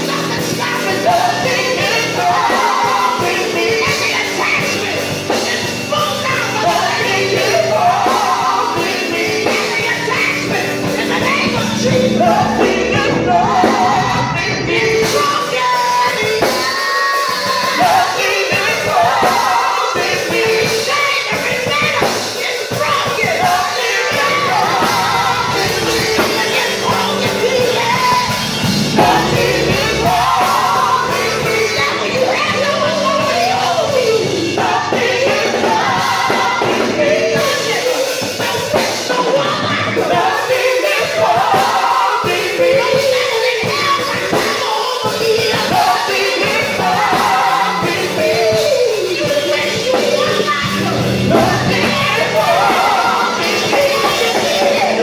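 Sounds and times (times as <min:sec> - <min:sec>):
keyboard and electric guitar: 0:00.0 - 0:41.7, 0:45.1 - 0:55.0
gospel group singing: 0:00.0 - 0:55.0.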